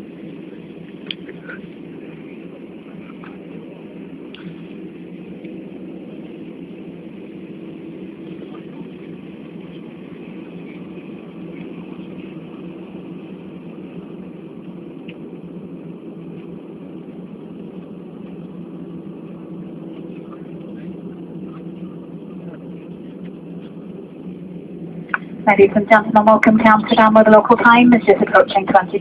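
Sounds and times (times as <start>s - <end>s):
faint steady hum: 0.0s - 29.0s
jet engine and airflow noise: 0.0s - 29.0s.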